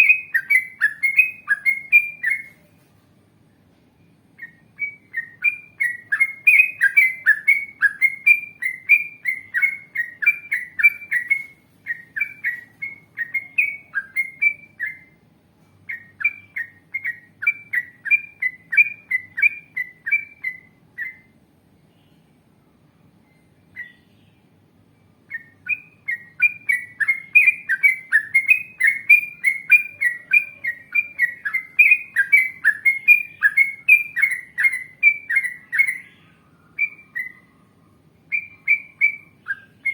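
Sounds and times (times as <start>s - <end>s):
bird singing bubbly whistled notes: 0.0s - 2.6s, 4.4s - 15.2s, 15.9s - 21.3s, 25.3s - 37.7s, 38.3s - 39.9s.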